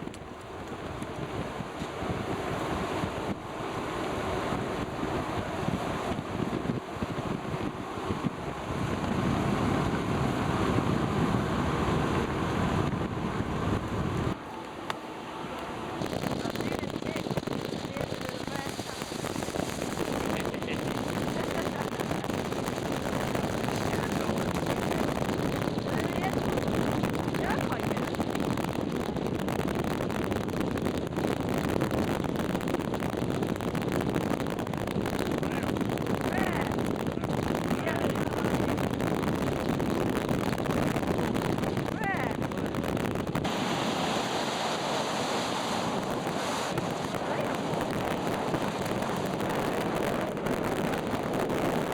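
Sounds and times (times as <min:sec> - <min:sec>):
wind buffeting microphone: 0:00.0 - 0:14.4, 0:15.4 - 0:51.9
ship rumbling: 0:00.0 - 0:51.9.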